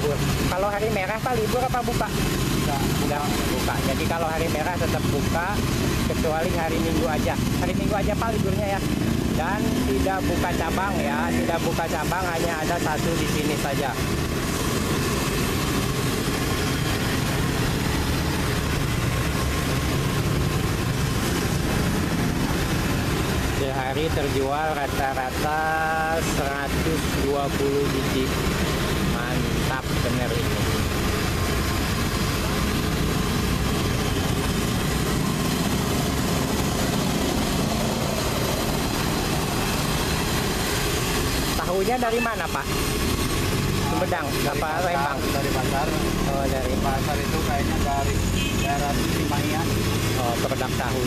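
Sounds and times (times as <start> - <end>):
food deep-frying in oil: 0.0 - 51.0
motorcycles and cars passing: 0.0 - 51.0
street traffic engines: 0.0 - 51.0.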